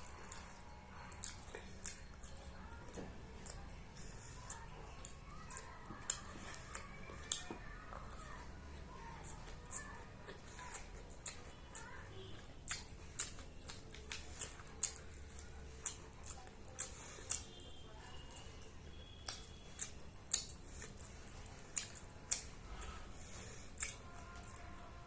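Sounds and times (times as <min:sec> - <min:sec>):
wet chewing and lip-smacking: 0:00.0 - 0:25.0.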